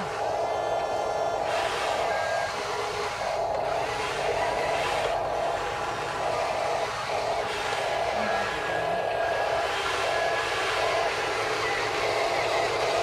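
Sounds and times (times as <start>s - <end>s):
toy electric motors whirring: 0.0s - 13.0s.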